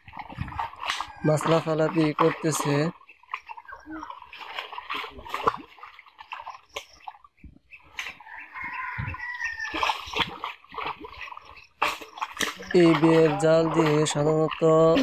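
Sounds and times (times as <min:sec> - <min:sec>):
fish thrashing in water: 0:00.0 - 0:15.0
water splashing and sloshing: 0:00.0 - 0:15.0.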